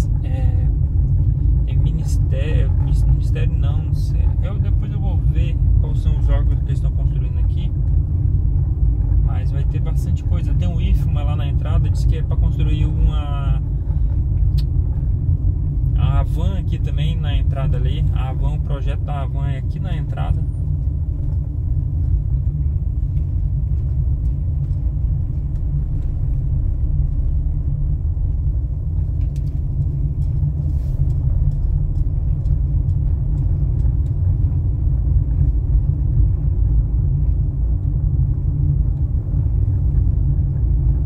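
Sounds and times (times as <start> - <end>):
car cabin road and engine rumble: 0.0 - 41.0.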